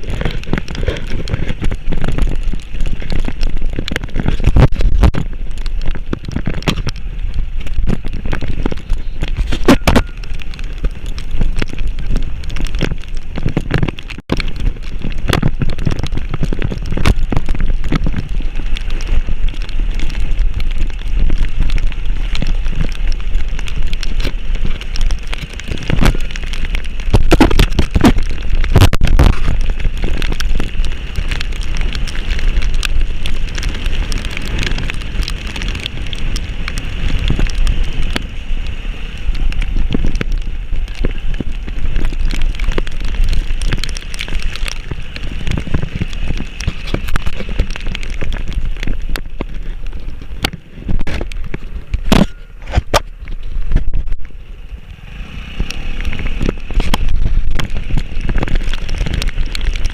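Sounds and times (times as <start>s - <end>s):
constant low rumble: 0.0s - 59.9s
heavy rain crackling: 0.0s - 59.9s.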